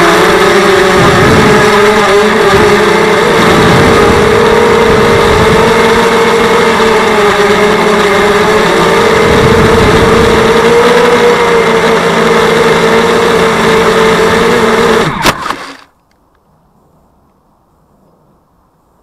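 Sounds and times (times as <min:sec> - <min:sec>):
drone motors buzzing whine: 0:00.0 - 0:16.1.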